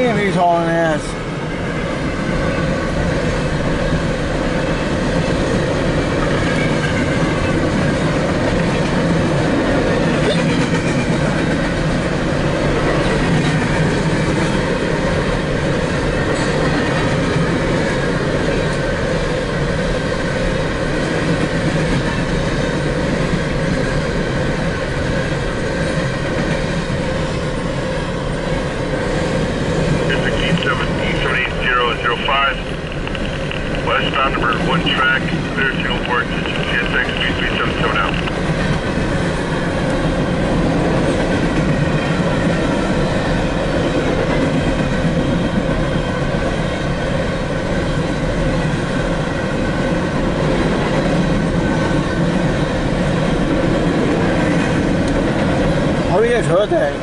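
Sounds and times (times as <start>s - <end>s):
freight cars rumbling on rails: 0.0s - 57.0s.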